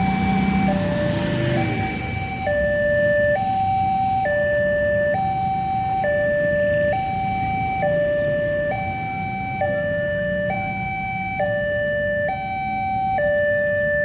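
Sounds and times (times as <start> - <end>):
two-tone warning siren: 0.0 - 14.0.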